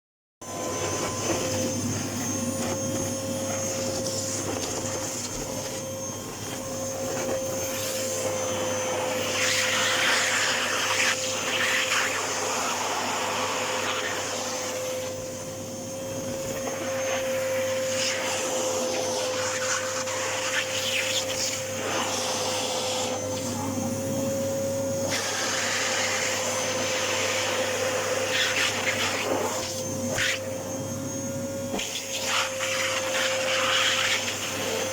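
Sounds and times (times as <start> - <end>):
vacuum cleaner running: 0.4 - 34.9.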